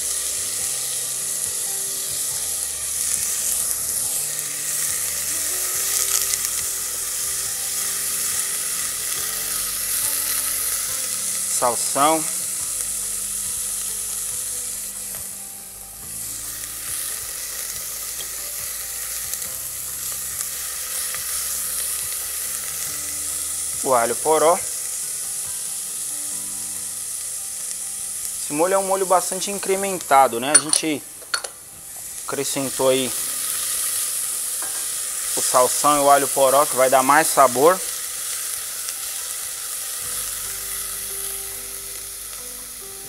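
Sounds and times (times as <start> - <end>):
onion and garlic sizzling in oil: 0.0 - 43.0.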